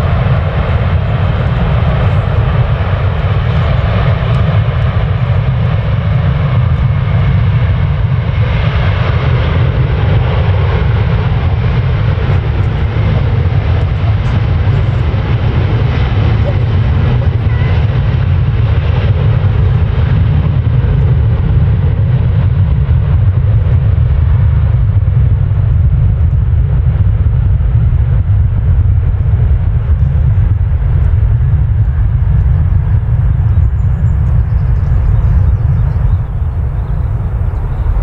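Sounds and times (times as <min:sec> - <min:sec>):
jet airliner engines rumbling: 0:00.0 - 0:38.0.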